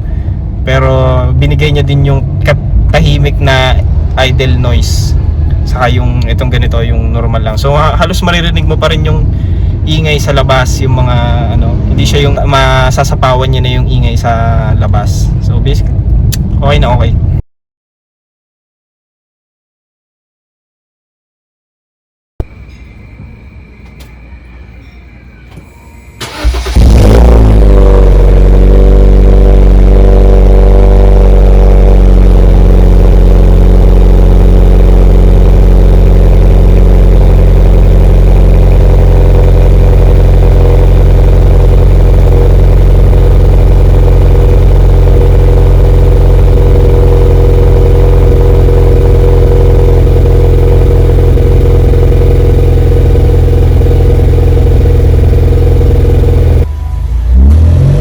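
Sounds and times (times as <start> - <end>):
car engine starting and idling: 0.0 - 17.1, 26.2 - 58.0.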